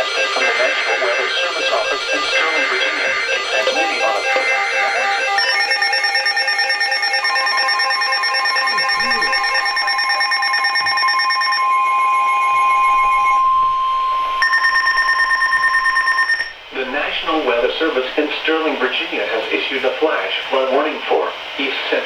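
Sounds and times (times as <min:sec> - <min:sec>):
steady high alarm tone: 0:00.0 - 0:20.1
rapidly pulsing electronic tones: 0:00.0 - 0:20.8.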